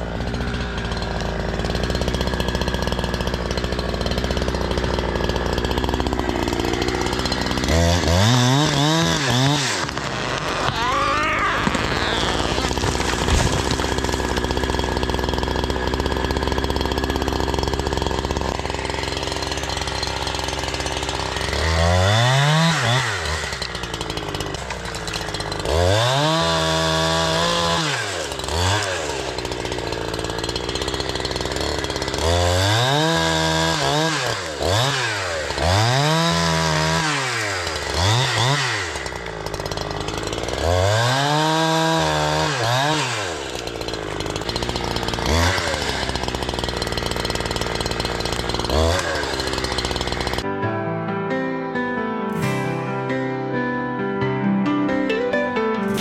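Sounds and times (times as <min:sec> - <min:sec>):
chainsaw engine revving: 0:00.0 - 0:50.5, 0:52.4 - 0:53.2.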